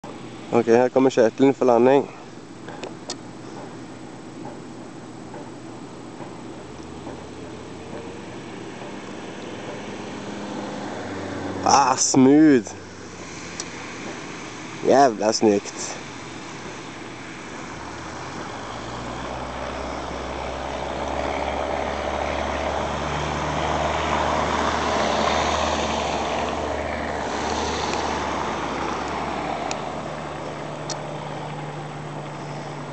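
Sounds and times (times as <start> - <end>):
airplane piston engine and propeller: 0.0 - 32.9.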